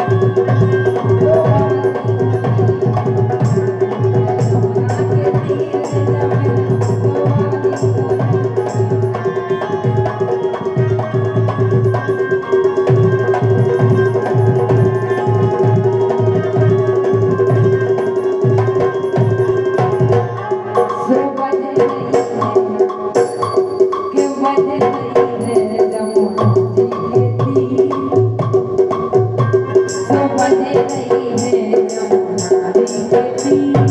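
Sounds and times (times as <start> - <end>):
fast hand-drum strokes: 0.0 - 33.9.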